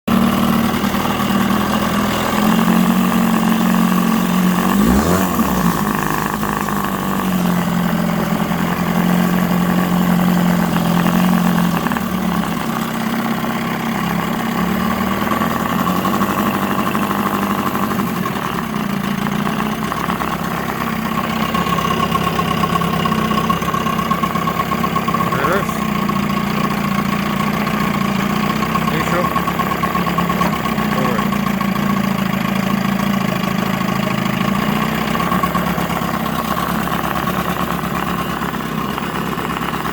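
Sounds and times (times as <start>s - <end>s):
outboard motor running: 0.1s - 39.9s.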